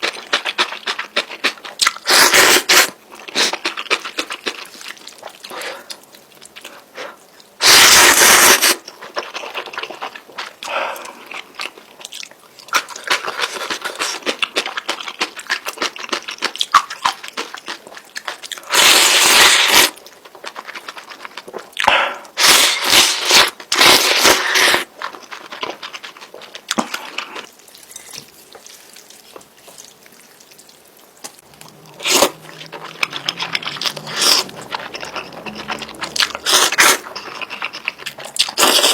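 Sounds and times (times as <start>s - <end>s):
person chewing noodles: 0.0s - 38.9s.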